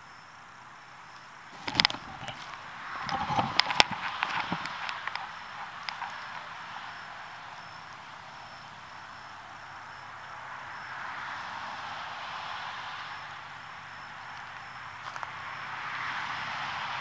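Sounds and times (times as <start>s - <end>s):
insects chirring: 0.0s - 17.0s
steady hiss: 0.0s - 17.0s.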